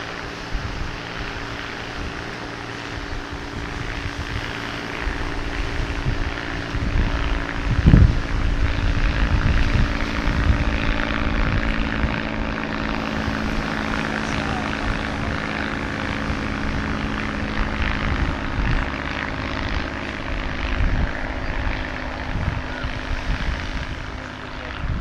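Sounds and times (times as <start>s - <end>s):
engine hum: 0.0s - 25.0s
wind gusts on microphone: 0.0s - 25.0s.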